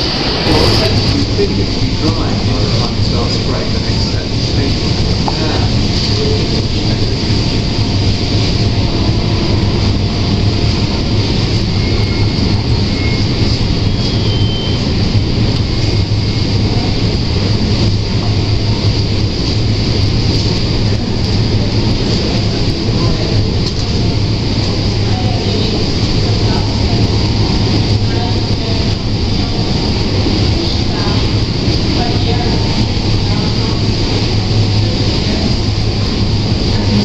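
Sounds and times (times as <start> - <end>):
rushing air: 0.0 - 37.0
strong low hum: 0.0 - 37.0.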